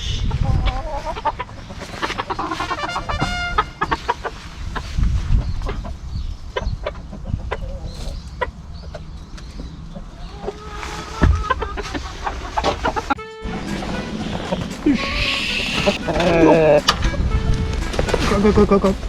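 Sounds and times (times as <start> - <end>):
strong wind rumble: 0.0 - 10.3, 11.2 - 19.0
chickens clucking: 0.0 - 19.0.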